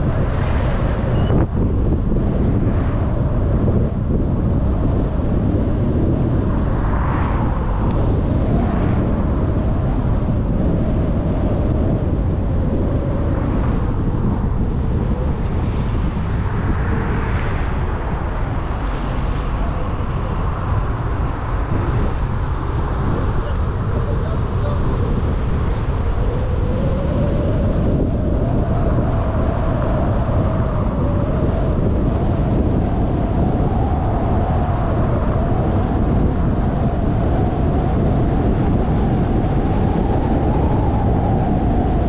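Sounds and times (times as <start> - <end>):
passing traffic: 0.0 - 35.3
car driving road noise: 0.0 - 42.0.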